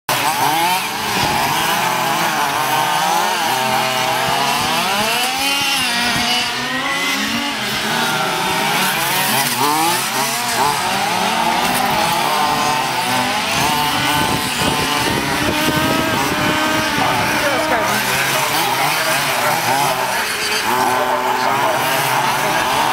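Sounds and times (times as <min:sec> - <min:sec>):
model car engines revving: 0:00.1 - 0:22.9.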